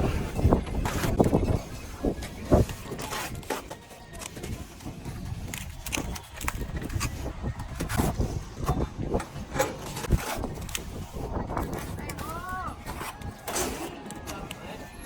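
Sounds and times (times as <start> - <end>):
trowel scraping plaster: 0.0 - 8.8, 9.6 - 15.0.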